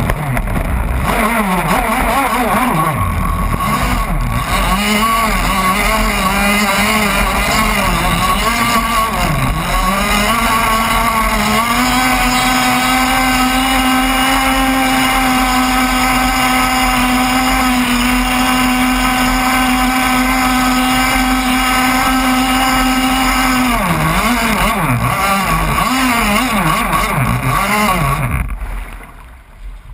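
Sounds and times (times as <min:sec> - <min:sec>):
model boat motor running: 0:00.0 - 0:28.6.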